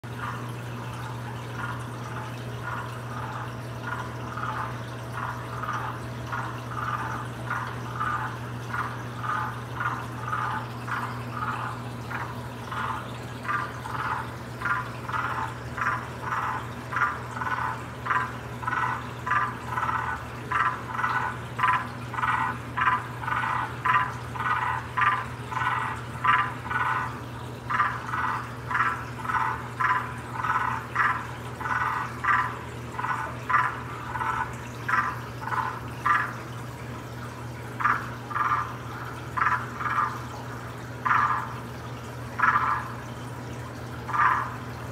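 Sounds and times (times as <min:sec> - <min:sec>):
steady low hum: 0:00.0 - 0:44.9
tree frog calling: 0:01.5 - 0:36.5, 0:37.8 - 0:40.3, 0:41.0 - 0:41.7, 0:42.4 - 0:43.1, 0:44.0 - 0:44.6.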